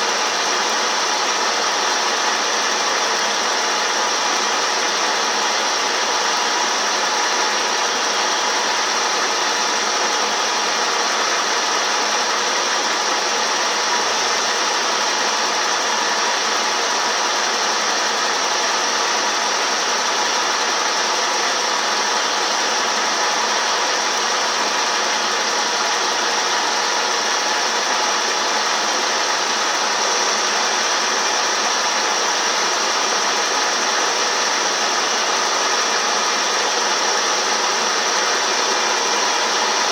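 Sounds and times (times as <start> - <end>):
milling machine running: 0.0 - 39.9.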